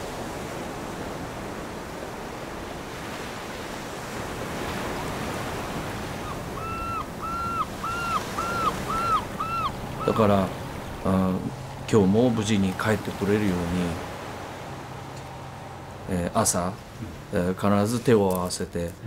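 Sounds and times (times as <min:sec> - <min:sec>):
ocean surf on rocks: 0:00.0 - 0:19.0
wind: 0:00.0 - 0:19.0.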